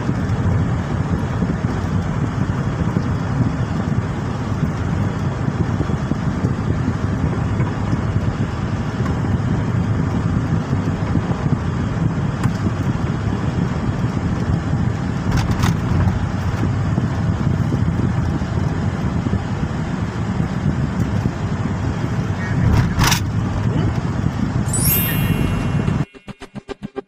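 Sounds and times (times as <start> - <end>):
car interior road rumble: 0.0 - 24.7.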